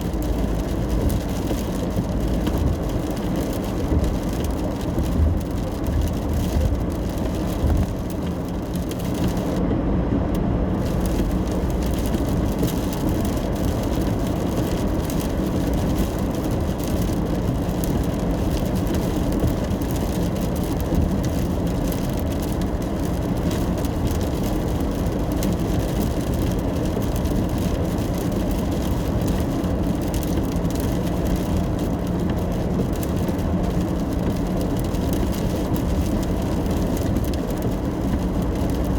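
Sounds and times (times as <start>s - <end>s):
car road noise from inside: 0.0s - 38.9s.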